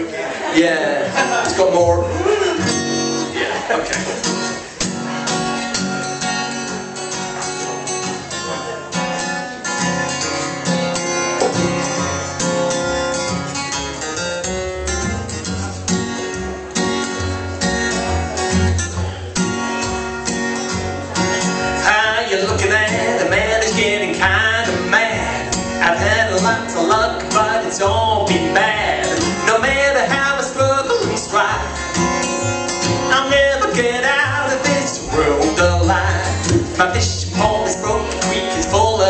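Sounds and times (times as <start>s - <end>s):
bluegrass acoustic guitar picking: 0.0s - 39.0s.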